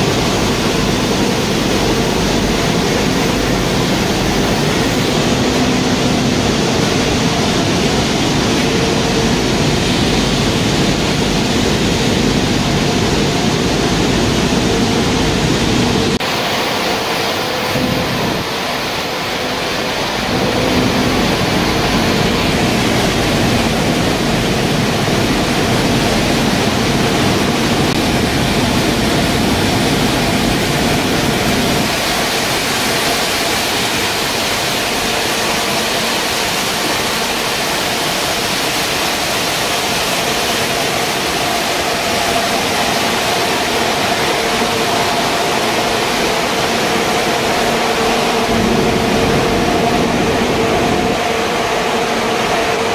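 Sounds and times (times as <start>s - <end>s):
grinding mills and blowers rushing: 0.0s - 52.9s
machine hum tones: 0.0s - 52.9s.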